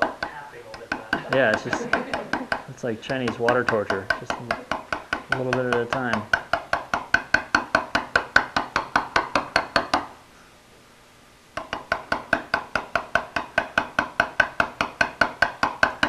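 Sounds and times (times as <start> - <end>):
hammer tapping chisel on slate: 0.0 - 10.2, 11.6 - 16.0.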